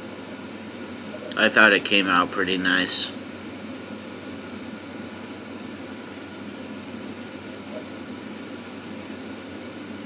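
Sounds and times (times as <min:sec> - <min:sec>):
room hum and hiss: 0:00.0 - 0:10.0.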